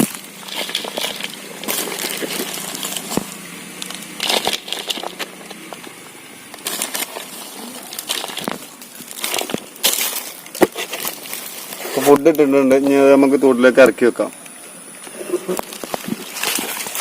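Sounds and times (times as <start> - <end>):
plastic bottle crackling and knocking: 0.0 - 12.4, 15.5 - 17.0.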